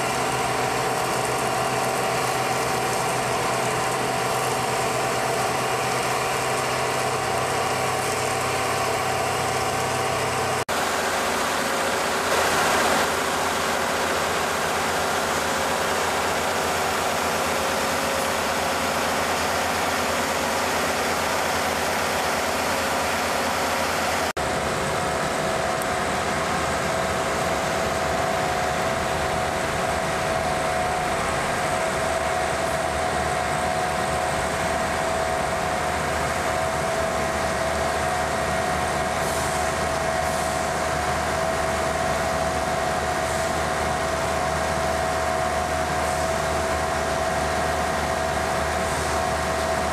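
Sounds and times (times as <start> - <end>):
industrial machinery drone: 0.0 - 49.9.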